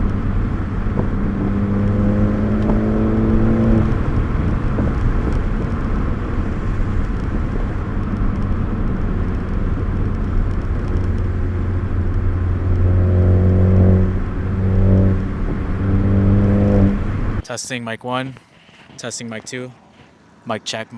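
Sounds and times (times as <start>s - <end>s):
car engine droning inside cabin: 0.0s - 17.5s.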